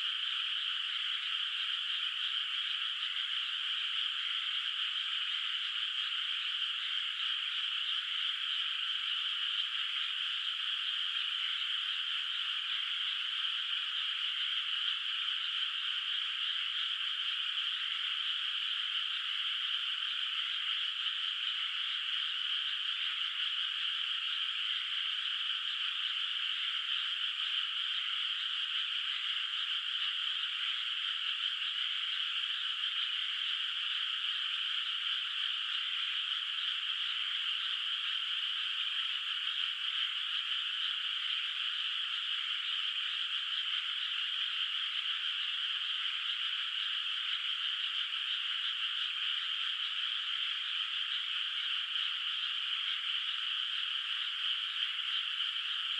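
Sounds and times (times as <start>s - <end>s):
chorus of frogs calling: 0.0s - 55.9s.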